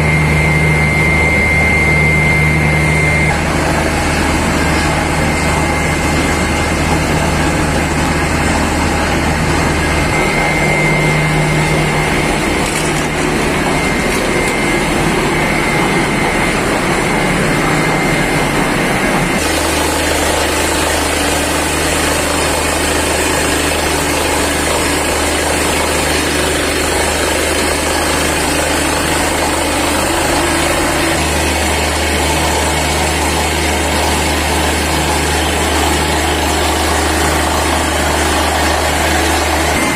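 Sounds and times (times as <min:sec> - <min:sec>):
drilling rig engine and machinery: 0:00.0 - 0:39.9.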